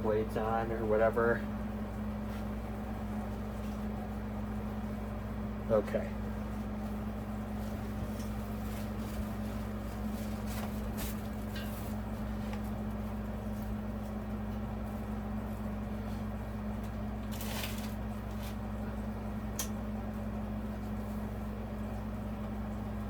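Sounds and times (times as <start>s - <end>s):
ceiling fan motor humming: 0.0s - 23.0s.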